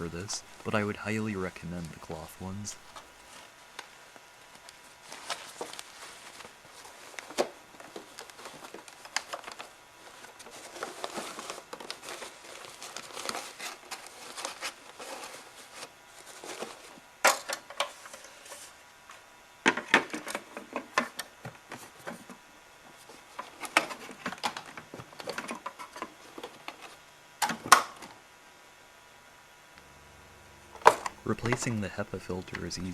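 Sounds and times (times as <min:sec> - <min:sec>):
rustling of vacuum parts: 0:00.0 - 0:27.7, 0:30.7 - 0:32.9.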